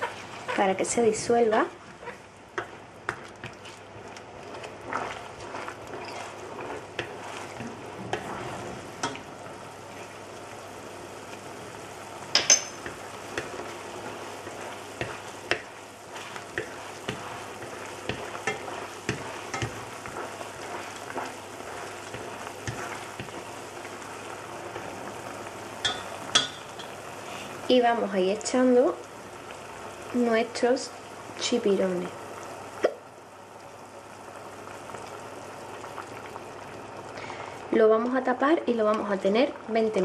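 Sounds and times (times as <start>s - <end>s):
sauce boiling: 0.0s - 40.0s.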